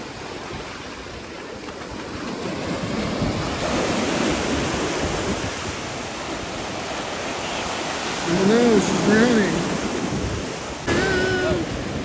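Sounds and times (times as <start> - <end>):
ocean wave breaking: 0.0 - 12.0.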